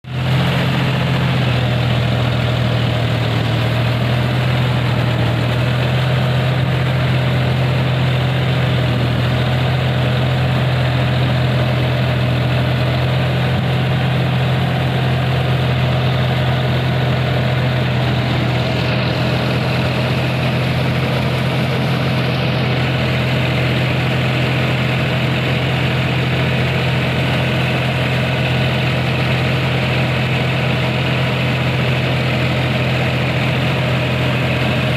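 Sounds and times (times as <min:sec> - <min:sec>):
diesel tractor engine idling: 0:00.0 - 0:34.9.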